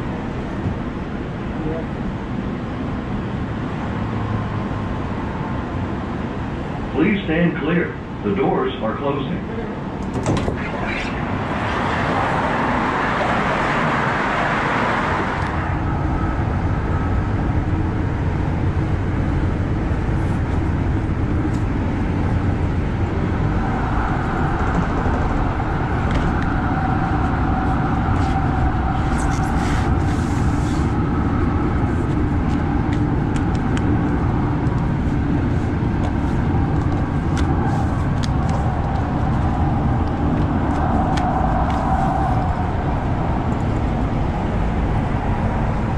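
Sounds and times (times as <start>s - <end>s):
train low rumble: 0.0s - 45.9s.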